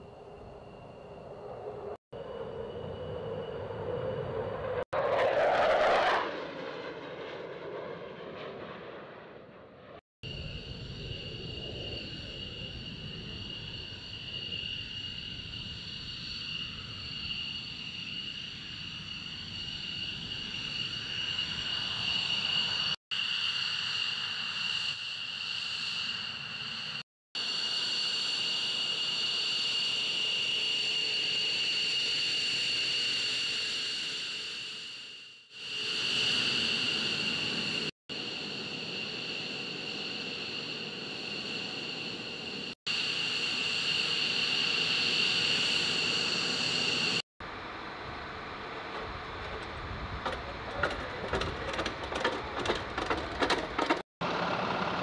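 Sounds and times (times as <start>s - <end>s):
jet turbine whine: 0.0s - 55.0s.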